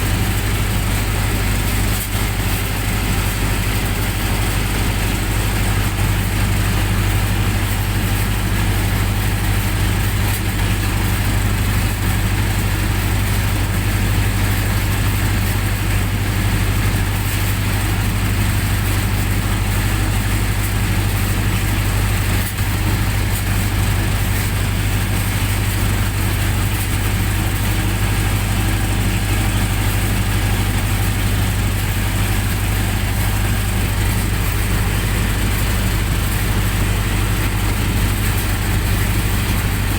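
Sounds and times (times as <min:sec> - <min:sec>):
generator engine humming: 0:00.0 - 0:39.9.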